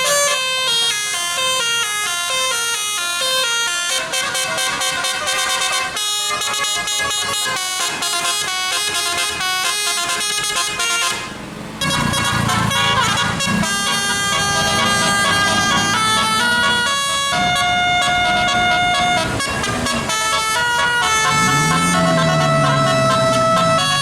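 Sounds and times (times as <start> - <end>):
bus musical horn melodies: 0.0 - 24.0
bus engine running: 1.7 - 24.0.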